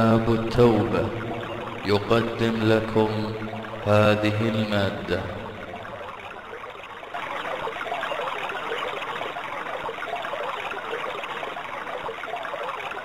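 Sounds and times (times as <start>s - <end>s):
rushing flowing water: 0.0s - 13.0s.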